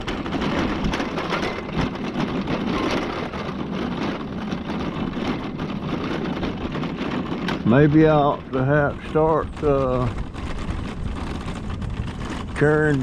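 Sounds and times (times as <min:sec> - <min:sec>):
small rattles and clicks: 0:00.0 - 0:13.0
vehicle engine and road noise: 0:00.0 - 0:13.0.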